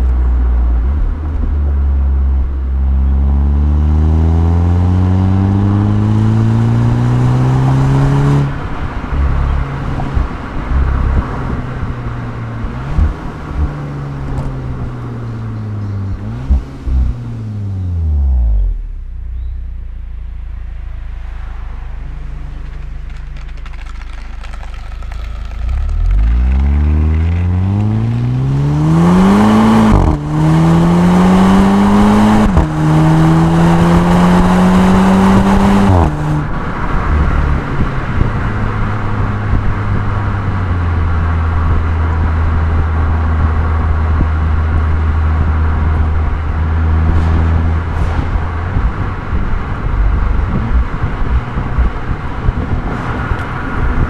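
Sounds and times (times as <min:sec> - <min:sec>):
car exhaust accelerating: 0:00.0 - 0:54.0
road noise: 0:00.0 - 0:54.0.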